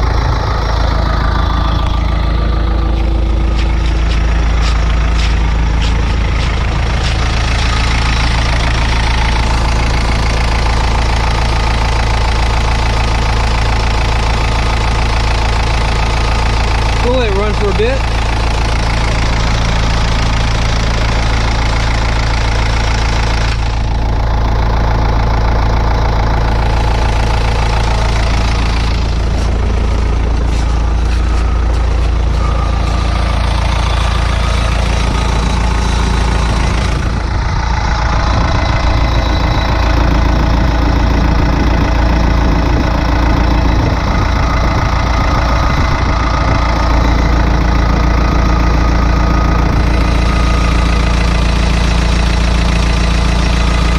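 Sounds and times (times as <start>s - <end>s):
diesel engine idling with knock: 0.0s - 53.9s.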